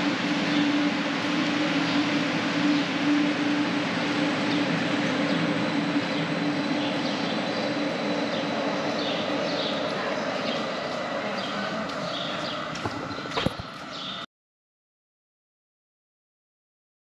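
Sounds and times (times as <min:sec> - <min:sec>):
broad rush of noise: 0:00.0 - 0:14.3
light-rail train humming: 0:00.0 - 0:14.3.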